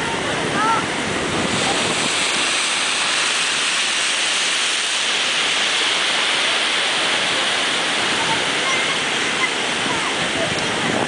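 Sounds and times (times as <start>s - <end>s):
ocean surf hissing: 0.0s - 11.0s.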